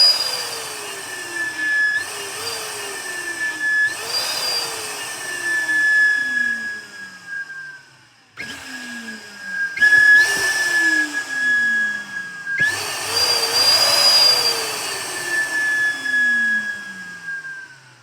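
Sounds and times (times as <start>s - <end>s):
high-pitched steam whistle: 0.0s - 6.8s, 9.8s - 17.6s.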